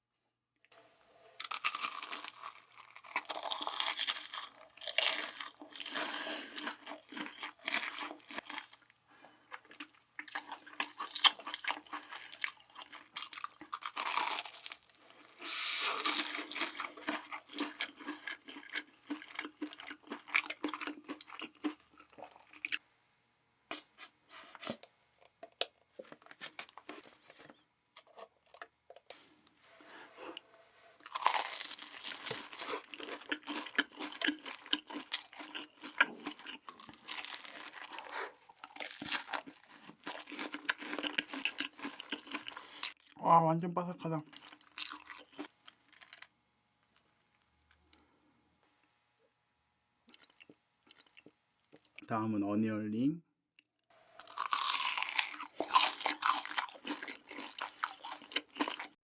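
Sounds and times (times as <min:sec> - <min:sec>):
person chewing crunchy food: 0:01.2 - 0:22.8, 0:23.7 - 0:43.2, 0:44.3 - 0:46.3, 0:50.1 - 0:52.0, 0:54.0 - 0:59.0.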